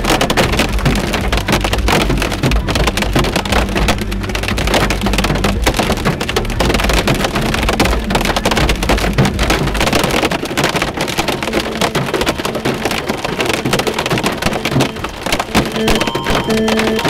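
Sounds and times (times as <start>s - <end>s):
hail and rain on car roof: 0.0s - 17.0s.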